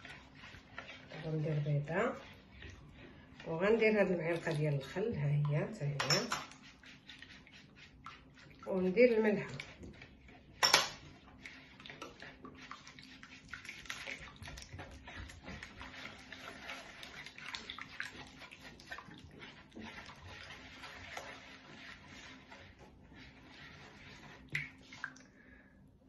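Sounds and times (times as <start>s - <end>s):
spatula stirring wet batter: 0.0s - 25.6s.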